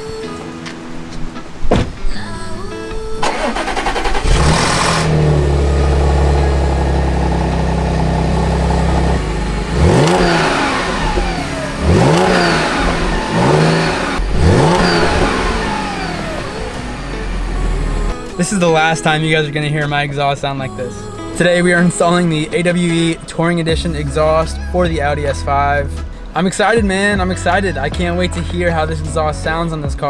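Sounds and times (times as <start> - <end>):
car engine revving: 3.2 - 29.0.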